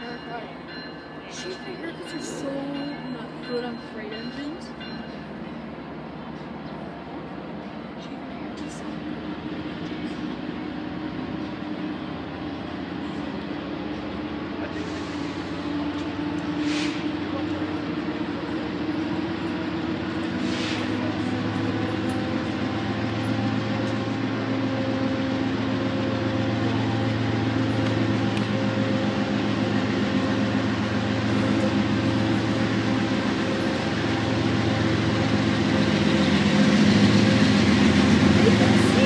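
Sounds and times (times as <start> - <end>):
diesel locomotive engines droning: 0.0 - 39.0
train rolling noise: 0.0 - 39.0.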